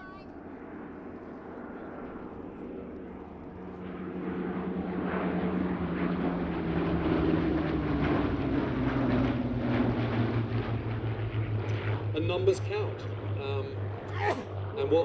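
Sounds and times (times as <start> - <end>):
aircraft engines in flypast: 0.0 - 15.0.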